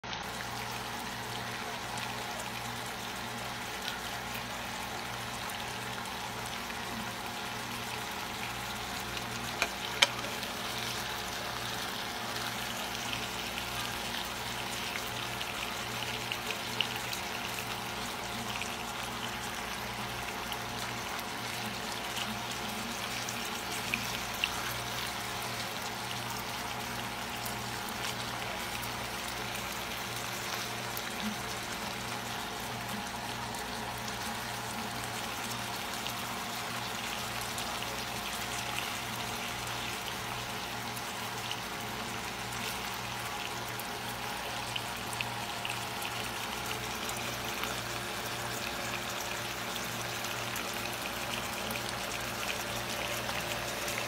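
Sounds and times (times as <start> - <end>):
meat and onions sizzling in pan: 0.1 - 54.0.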